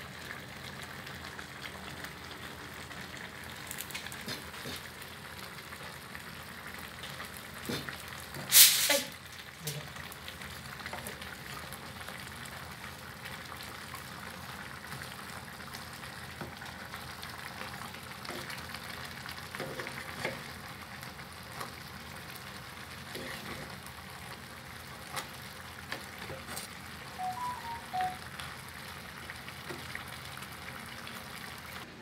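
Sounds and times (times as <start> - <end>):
pot sizzling on stove: 0.0 - 32.0.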